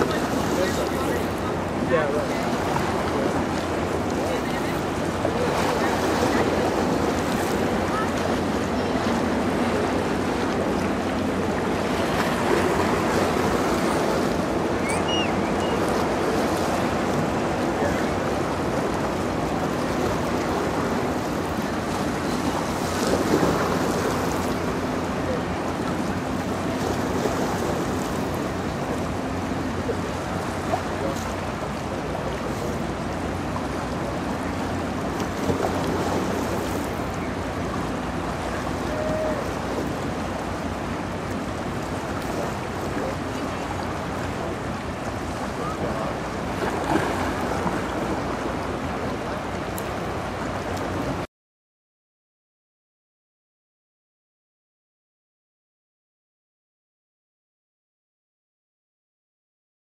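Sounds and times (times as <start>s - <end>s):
moving water: 0.0s - 51.3s
ship engine hum: 0.0s - 51.3s.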